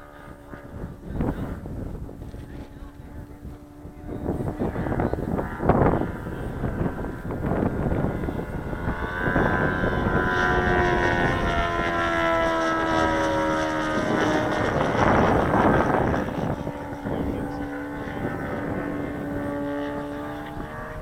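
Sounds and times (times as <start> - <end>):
model plane engine in flight: 0.0 - 21.0
rushing wind: 0.0 - 21.0.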